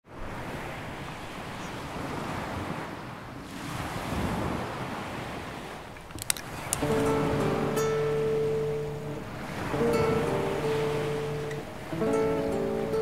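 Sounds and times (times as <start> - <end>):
sea waves washing in: 0.1 - 13.0.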